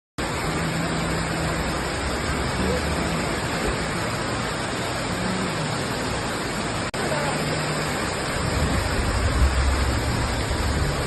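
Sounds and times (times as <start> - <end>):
faint voices: 0.2 - 9.2
waterfall rushing: 0.2 - 11.0.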